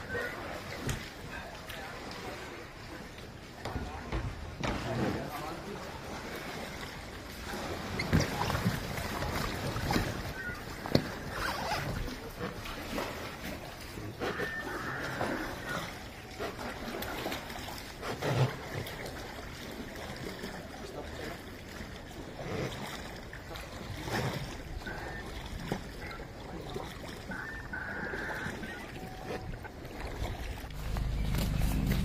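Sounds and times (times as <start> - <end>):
paddles splashing through water: 0.0 - 32.0.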